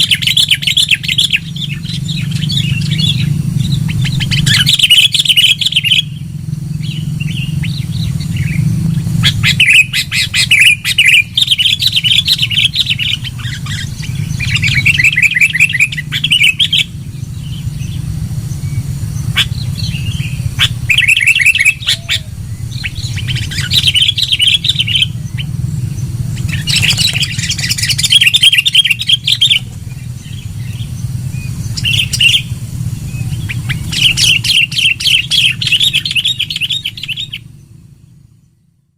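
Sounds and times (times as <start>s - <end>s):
bird chattering calls: 0.0s - 37.8s
steady low hum: 0.0s - 38.9s.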